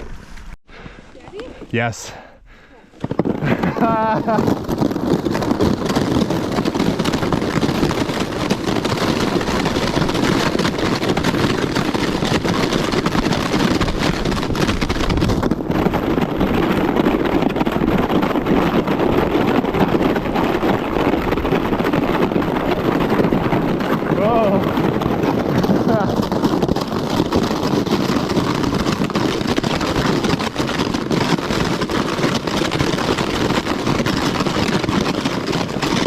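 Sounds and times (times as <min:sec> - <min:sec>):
wind buffeting microphone: 0:02.5 - 0:36.0.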